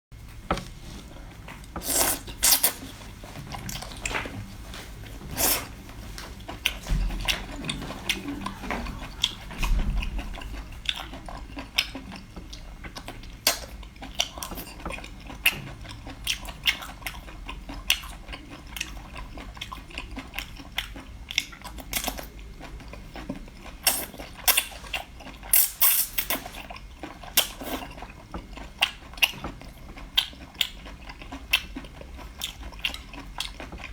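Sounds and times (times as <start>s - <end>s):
chewing and biting: 5.3s - 33.9s.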